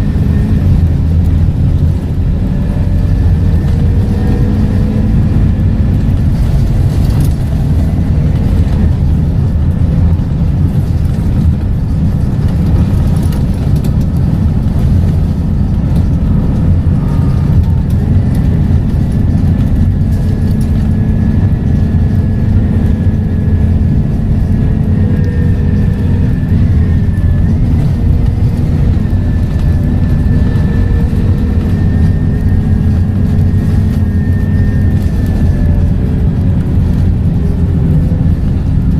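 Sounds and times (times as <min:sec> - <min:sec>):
bus diesel engine drone: 0:00.0 - 0:38.9
gearbox whine: 0:00.0 - 0:38.9.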